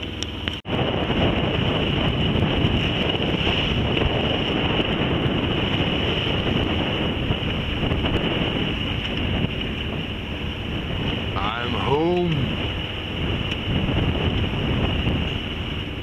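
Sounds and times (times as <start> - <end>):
water washing along hull: 0.0 - 16.0
wind buffeting microphone: 0.0 - 16.0.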